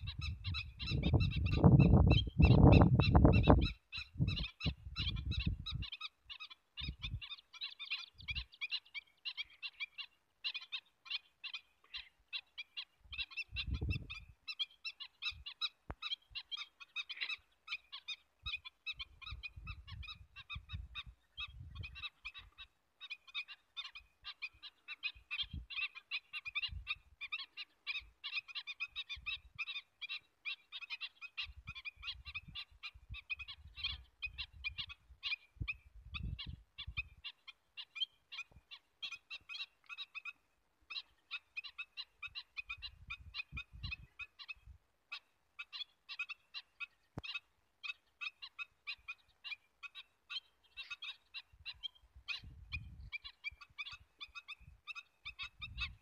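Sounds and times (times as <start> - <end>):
waterbirds calling: 0.0 - 56.0.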